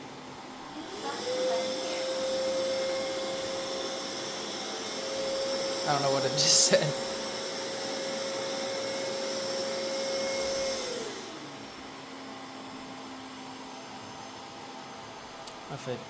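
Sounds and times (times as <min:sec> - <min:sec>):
robot vacuum whine: 0:00.7 - 0:15.1.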